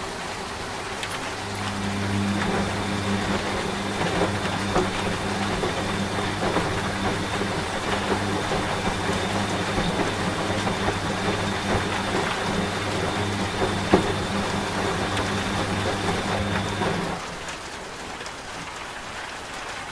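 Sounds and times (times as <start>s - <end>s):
washing machine humming: 0.0s - 17.8s
rain pattering: 0.0s - 19.9s.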